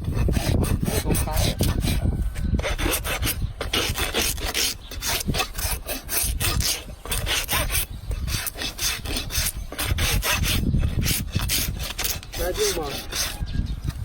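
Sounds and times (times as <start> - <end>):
hoof rasp scraping hoof: 0.0 - 14.0.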